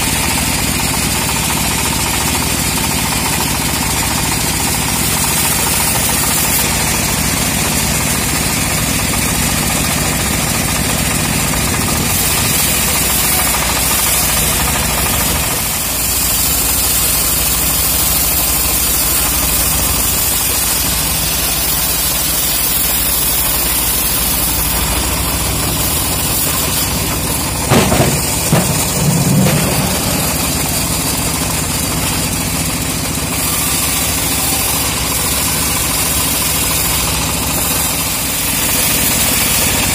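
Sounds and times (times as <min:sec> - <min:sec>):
diesel engine running: 0:00.0 - 0:39.9
loud clatter: 0:00.0 - 0:39.9.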